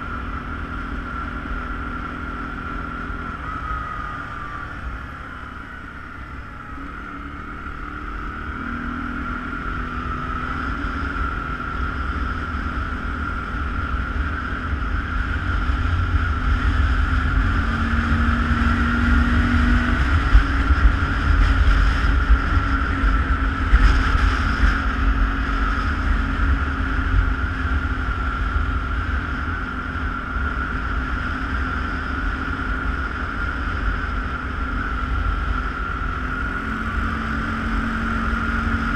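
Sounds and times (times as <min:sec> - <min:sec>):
atv engine running: 0:00.0 - 0:38.9
wind rumble on microphone: 0:00.0 - 0:38.9.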